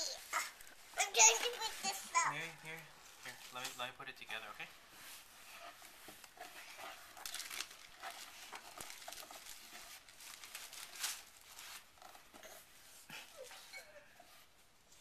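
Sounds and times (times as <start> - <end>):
packing material crinkling and tearing: 0.0 - 12.4.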